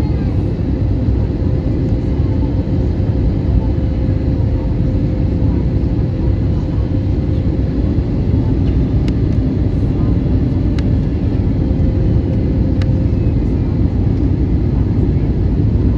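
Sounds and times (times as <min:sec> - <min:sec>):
engine and airflow rumble: 0:00.0 - 0:15.9.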